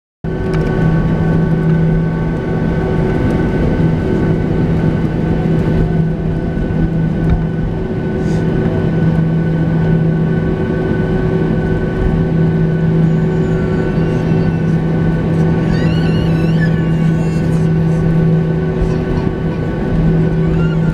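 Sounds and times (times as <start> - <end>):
jet engines humming and whining: 0.2 - 20.9.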